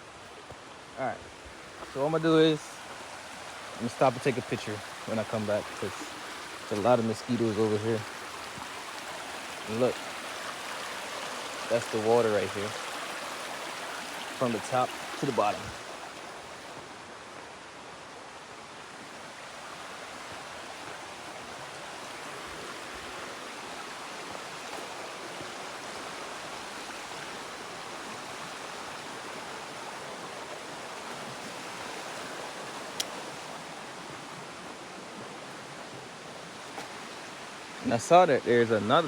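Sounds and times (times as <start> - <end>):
water rushing down creek: 0.0 - 39.0.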